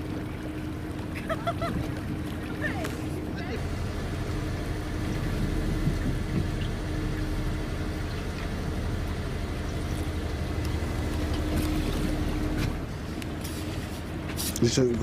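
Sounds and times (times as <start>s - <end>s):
electric boat rumble: 0.0s - 15.0s.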